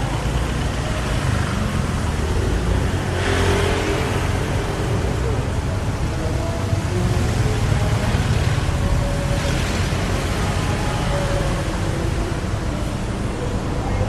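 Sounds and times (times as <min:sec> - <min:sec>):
passing vehicles rumble: 0:00.0 - 0:14.0.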